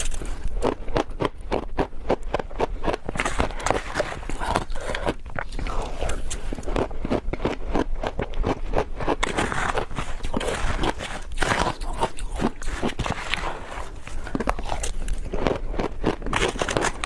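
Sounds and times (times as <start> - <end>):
person crunching ice: 0.0 - 17.0.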